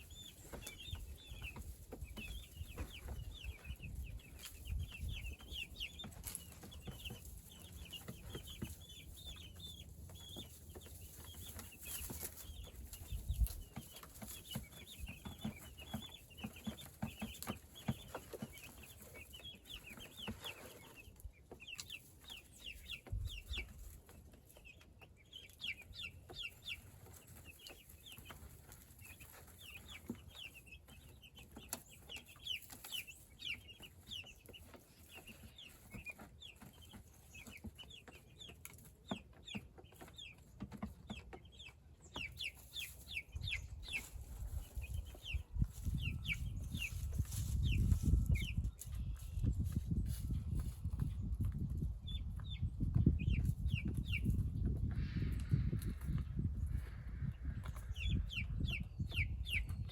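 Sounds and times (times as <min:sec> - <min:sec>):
chickens clucking and peeping: 0:00.0 - 0:59.9.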